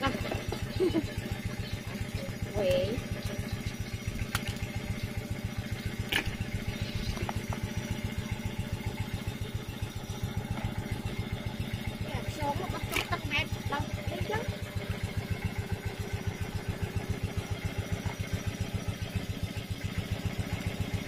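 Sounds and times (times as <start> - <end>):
small engine idling: 0.0 - 21.0.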